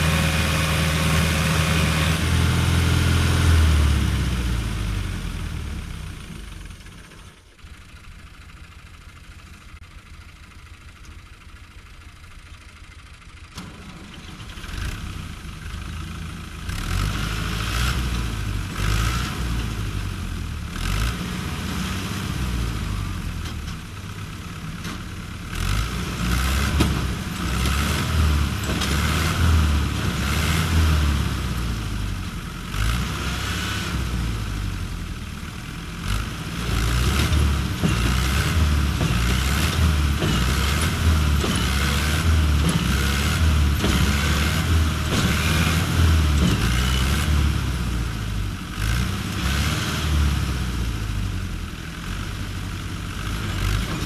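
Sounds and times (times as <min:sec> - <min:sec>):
diesel tractor engine revving: 0:00.0 - 0:06.9, 0:13.5 - 0:54.0.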